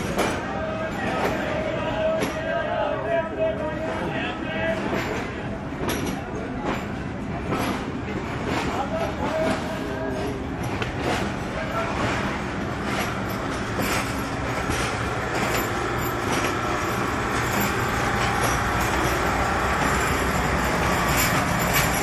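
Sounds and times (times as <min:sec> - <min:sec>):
train rumbling: 0:00.0 - 0:22.0
wheel clacks over rail joints: 0:00.0 - 0:22.0.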